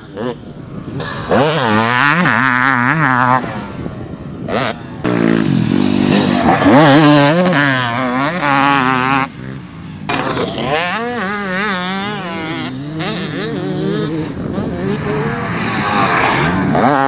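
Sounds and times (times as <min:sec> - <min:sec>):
motocross bike engine revving: 0:01.0 - 0:03.8, 0:04.5 - 0:17.0.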